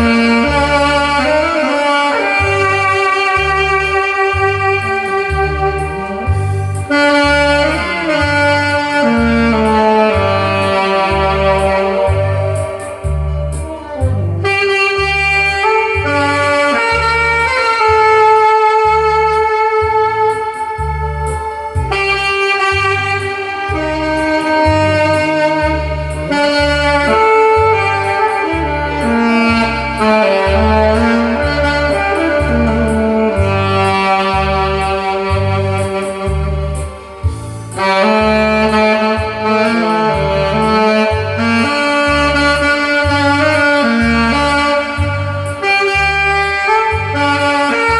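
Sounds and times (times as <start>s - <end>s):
backing track with bass beat: 0.0s - 47.9s
saxophone ballad melody: 0.0s - 47.9s.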